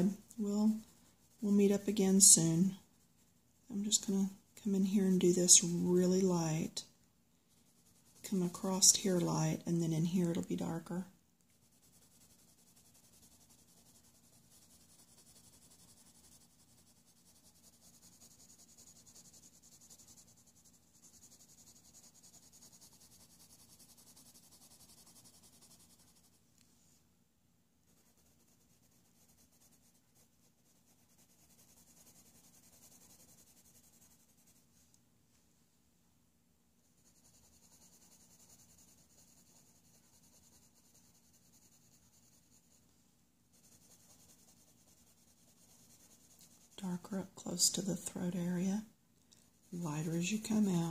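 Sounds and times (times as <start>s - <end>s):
colored pencil shading on paper: 0.0s - 6.9s, 7.5s - 26.4s, 27.8s - 34.8s, 36.9s - 42.9s, 43.5s - 48.9s, 49.6s - 50.9s.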